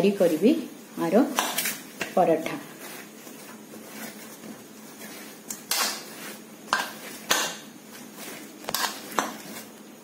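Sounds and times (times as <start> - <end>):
dough kneaded by hand: 0.0 - 10.0.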